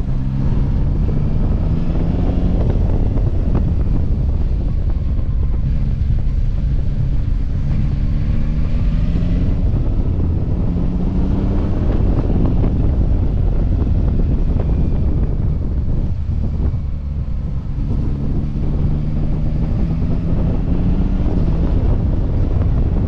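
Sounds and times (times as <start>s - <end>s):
motorcycle engine accelerating: 0.0s - 23.0s
wind noise on microphone: 0.0s - 23.0s.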